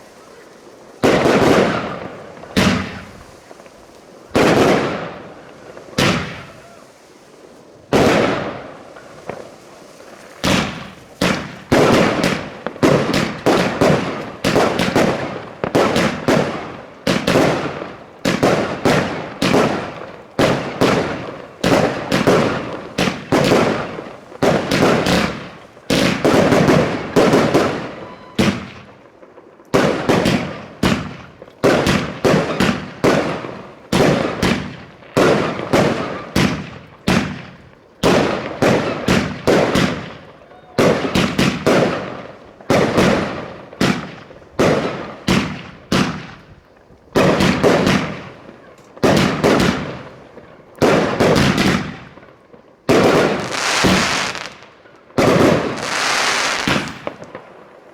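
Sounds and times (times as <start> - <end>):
fireworks bangs and crackles: 0.0 - 57.9.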